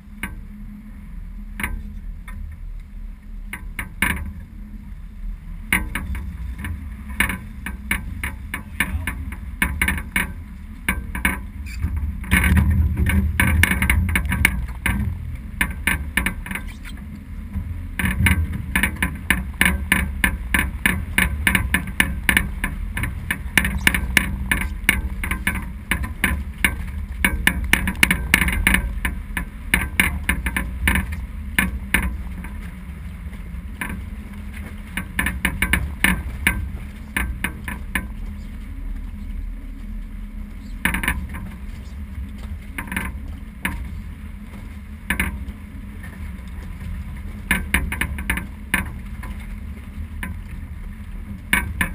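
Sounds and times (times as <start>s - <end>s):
wind rumble on microphone: 0.0s - 51.9s
deck gear clicking and knocking: 5.7s - 39.4s, 40.5s - 51.9s.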